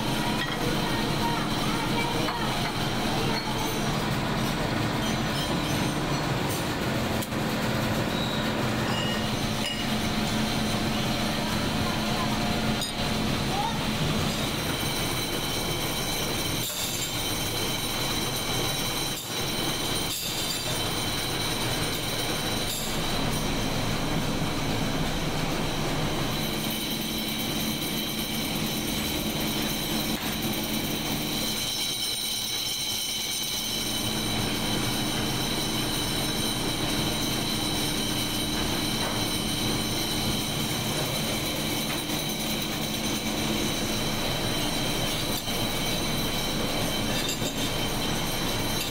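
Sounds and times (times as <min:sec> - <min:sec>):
factory machinery din: 0:00.0 - 0:48.9
high machine whine: 0:00.0 - 0:48.9.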